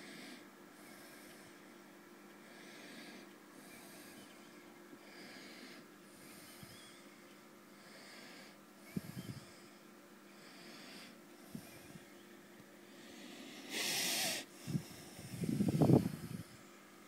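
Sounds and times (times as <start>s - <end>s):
faint breathing: 0.0s - 1.8s, 2.4s - 16.7s
steady low hum: 0.0s - 17.0s.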